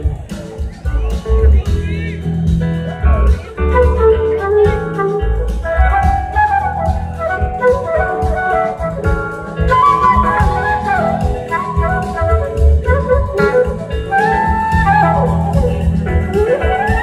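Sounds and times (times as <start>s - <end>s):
drums: 0.0s - 17.0s
electric bass: 0.0s - 17.0s
flute melody: 3.1s - 17.0s.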